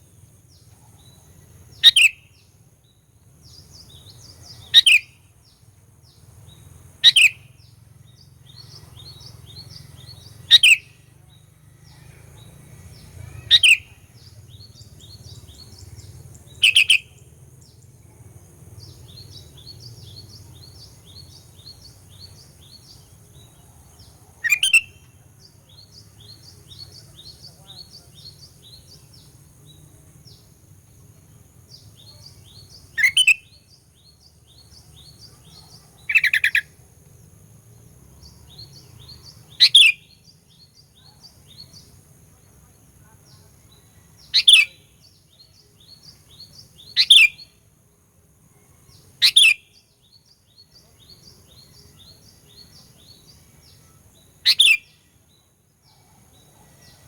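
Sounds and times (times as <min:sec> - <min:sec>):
bird calls: 0:00.0 - 0:02.5, 0:03.4 - 0:17.9, 0:18.8 - 0:29.4, 0:31.7 - 0:36.8, 0:38.2 - 0:42.0, 0:43.1 - 0:47.5, 0:48.9 - 0:57.0.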